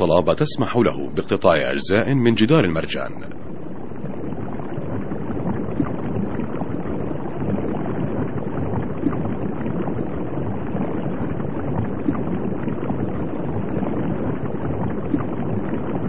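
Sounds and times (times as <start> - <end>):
faint underwater crackling: 0.0 - 16.0
underwater rushing wash: 0.0 - 16.0.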